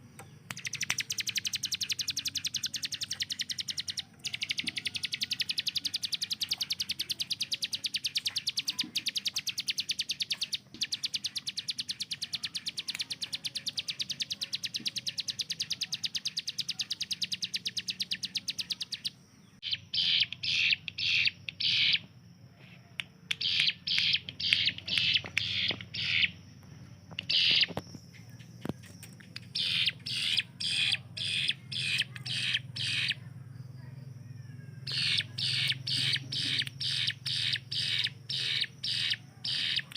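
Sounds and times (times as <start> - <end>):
bird singing rapid rattle: 0.0 - 39.9.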